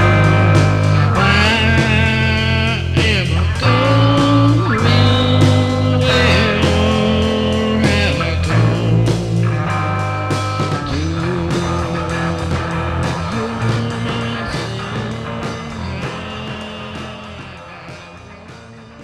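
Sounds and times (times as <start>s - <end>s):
psychedelic rock music: 0.0s - 19.0s.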